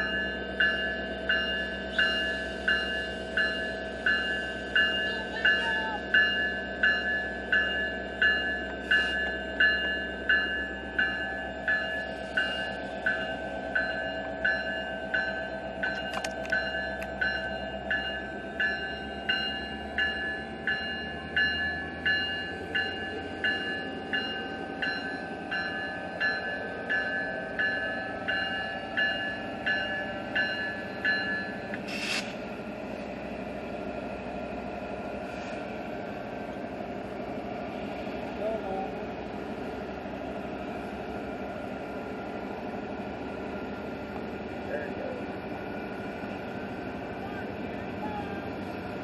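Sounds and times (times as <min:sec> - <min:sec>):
passing train rumble: 0:00.0 - 0:49.0
railroad crossing bell ringing: 0:00.0 - 0:49.0.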